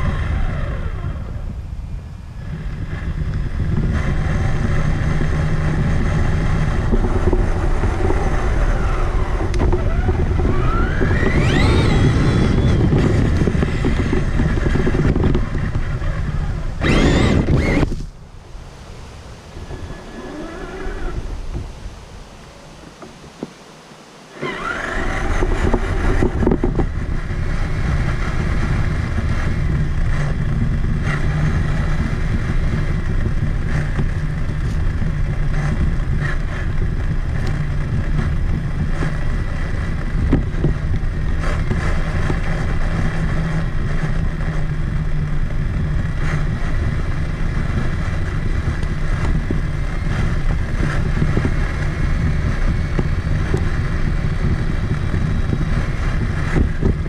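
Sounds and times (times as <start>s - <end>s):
rc truck driving rumble: 0.0s - 23.4s, 24.2s - 57.0s
electric motor whine: 0.0s - 57.0s.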